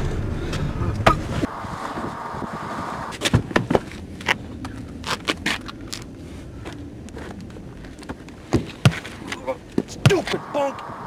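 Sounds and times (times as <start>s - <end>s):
steady rush of noise: 0.0s - 8.5s, 9.1s - 11.0s.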